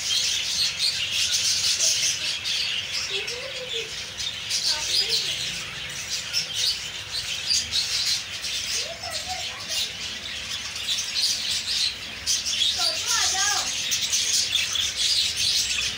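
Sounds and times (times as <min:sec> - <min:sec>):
budgerigars chirping: 0:00.0 - 0:15.9
low warbled bird calls: 0:00.0 - 0:15.9.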